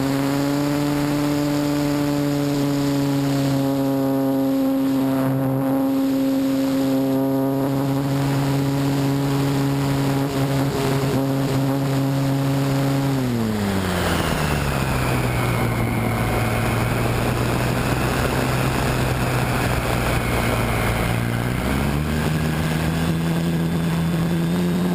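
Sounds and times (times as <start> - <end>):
airflow rushing: 0.0 - 24.9
electric motor propeller whine: 0.0 - 24.9.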